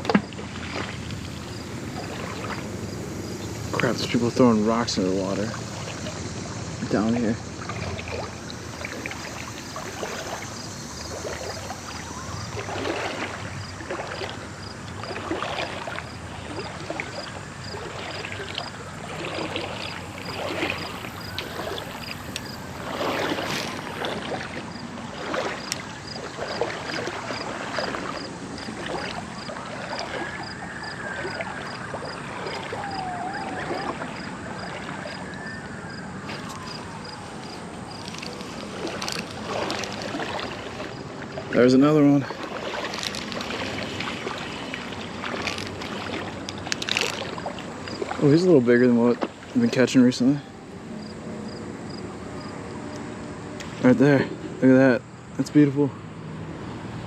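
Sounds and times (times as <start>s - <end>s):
road traffic: 0.0s - 48.6s, 49.2s - 57.0s
creek flowing: 0.0s - 57.0s.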